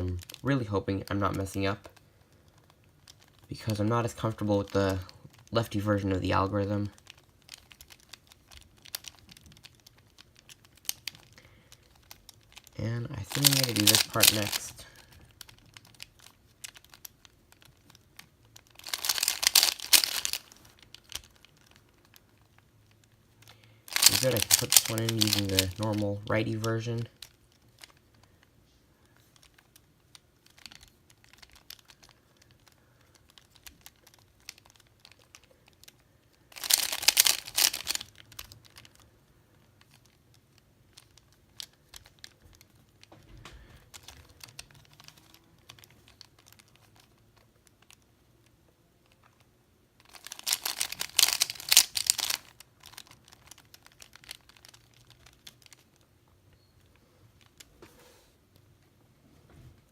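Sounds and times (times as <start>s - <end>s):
puzzle cube clicking turns: 0.0s - 56.2s, 56.8s - 57.8s.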